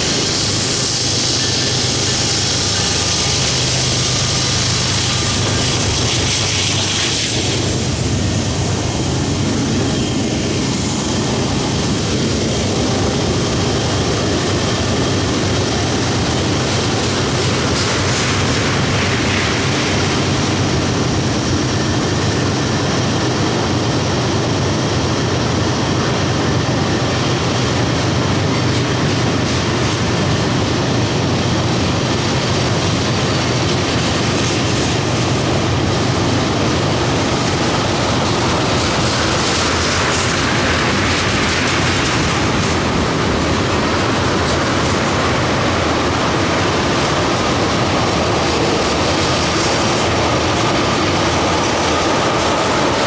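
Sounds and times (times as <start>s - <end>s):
diesel locomotive engine drone: 0.0s - 53.0s
tank cars wheel and rail noise: 0.0s - 53.0s.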